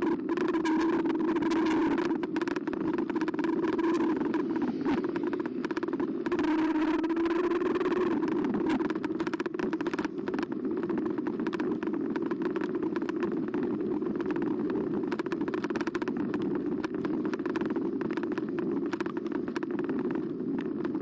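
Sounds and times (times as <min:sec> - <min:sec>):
electric bike riding hum: 0:00.0 - 0:21.0.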